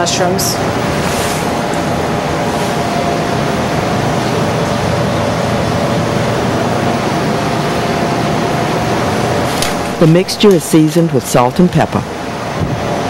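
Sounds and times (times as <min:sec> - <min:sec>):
ventilation air rushing: 0:00.0 - 0:13.0.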